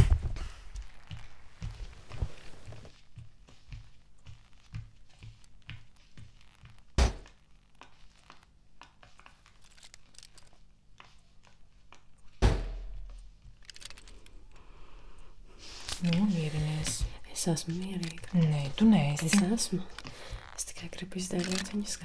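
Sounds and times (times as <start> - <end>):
footsteps: 0.0 - 14.7, 15.5 - 22.0.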